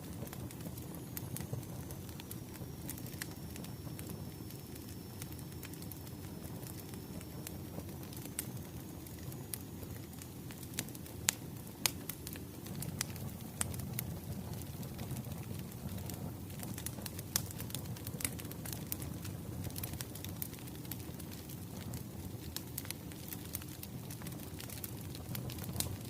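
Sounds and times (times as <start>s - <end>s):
firewood burning and crackling: 0.0s - 26.0s.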